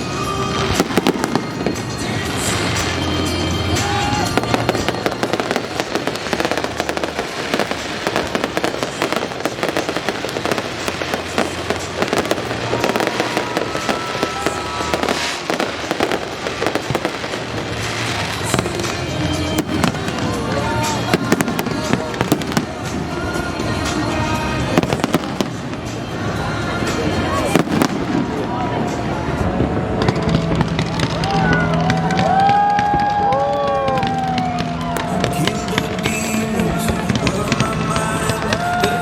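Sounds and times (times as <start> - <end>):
fireworks crackling and popping: 0.0 - 39.0
fireworks low booms: 0.0 - 39.0
music playing: 0.0 - 39.0.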